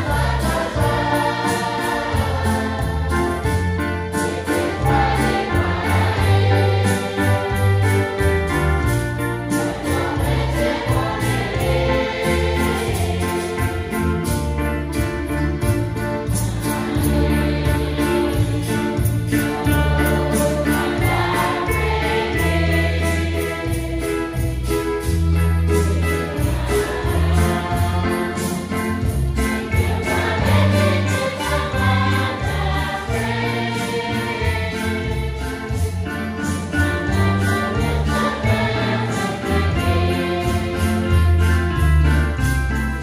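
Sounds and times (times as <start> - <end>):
congregation singing a hymn: 0.0 - 43.0.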